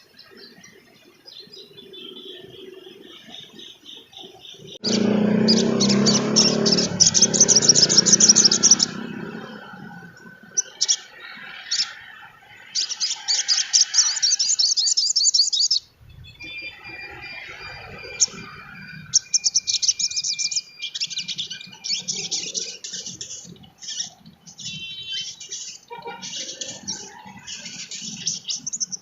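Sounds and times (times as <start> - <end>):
bird chattering trills: 1.6 - 29.0.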